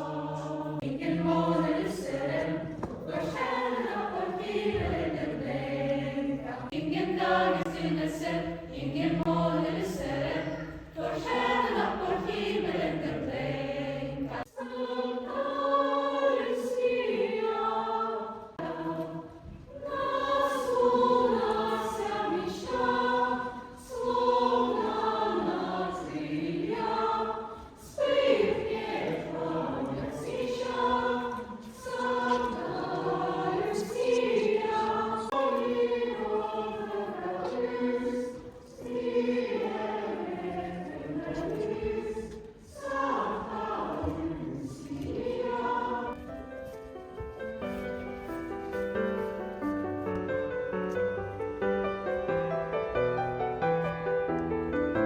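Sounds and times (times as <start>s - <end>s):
choir singing a slow song: 0.0s - 55.0s.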